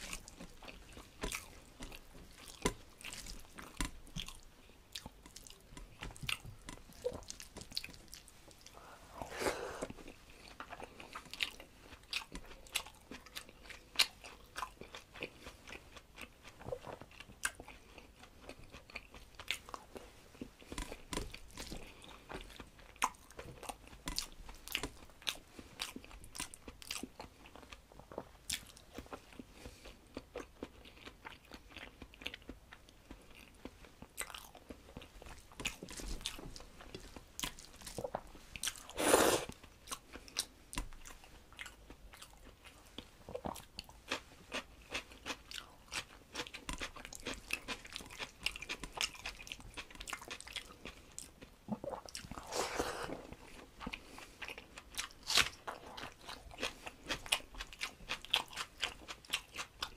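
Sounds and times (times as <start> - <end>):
man chewing with wet clicks: 0.0 - 8.8, 9.8 - 59.9.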